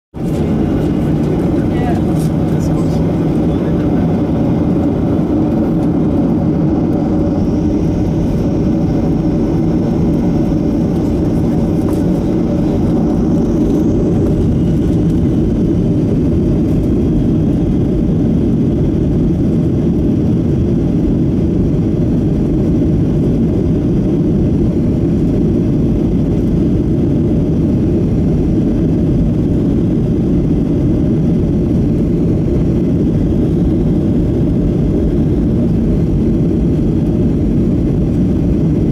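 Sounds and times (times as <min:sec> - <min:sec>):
rumble of rolling airliner: 0:00.1 - 0:38.9
jet engines humming: 0:00.2 - 0:38.9.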